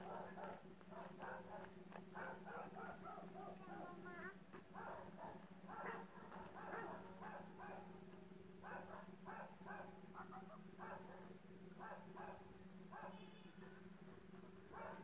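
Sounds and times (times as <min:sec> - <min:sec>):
faint dog barking: 0:00.0 - 0:15.0
steady low hum: 0:00.0 - 0:15.0.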